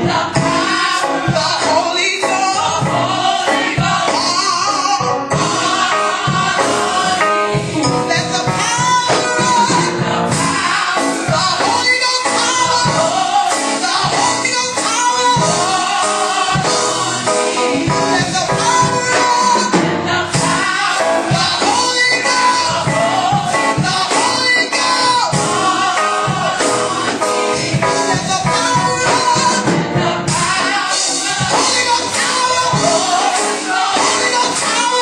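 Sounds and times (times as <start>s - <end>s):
women singing gospel: 0.0s - 35.0s.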